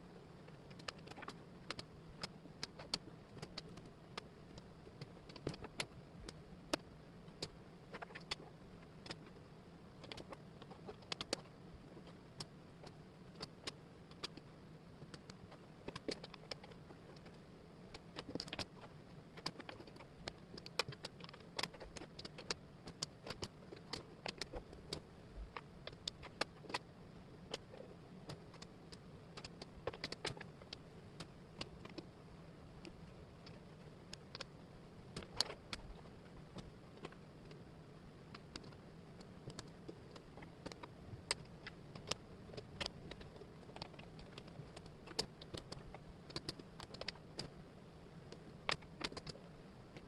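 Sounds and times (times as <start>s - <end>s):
low steady hum: 0.0s - 50.0s
wooden puzzle pieces clicking: 0.6s - 9.4s, 10.0s - 32.1s, 38.3s - 47.6s, 48.3s - 49.5s.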